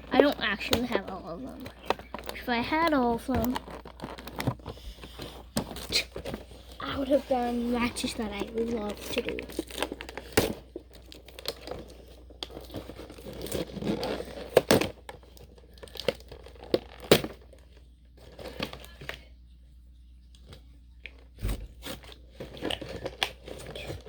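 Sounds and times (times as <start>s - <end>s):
packaging crinkling and tearing: 0.0s - 19.0s, 21.1s - 24.0s.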